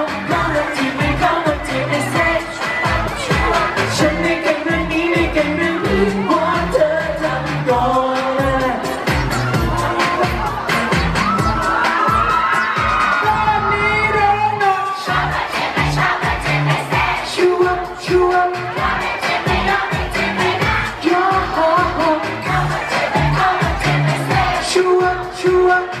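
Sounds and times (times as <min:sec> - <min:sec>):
dance beat drums: 0:00.0 - 0:26.0
pop song with male vocals: 0:00.0 - 0:26.0.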